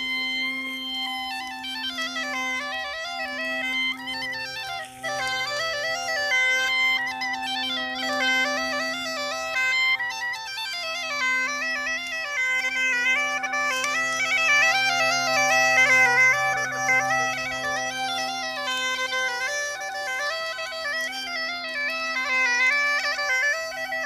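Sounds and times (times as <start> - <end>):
bagpipe melody over drones: 0.0 - 24.0.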